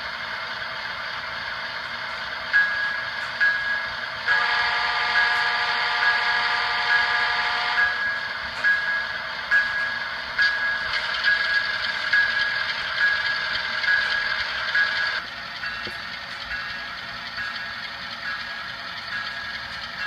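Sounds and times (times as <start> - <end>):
model locomotive bell dinging: 2.1 - 20.0.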